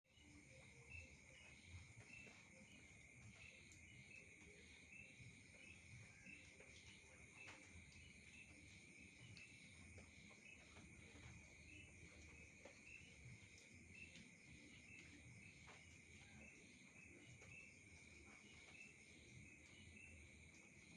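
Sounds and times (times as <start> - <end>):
insect chirps: 0.1 - 20.9
insect trill: 0.1 - 20.9.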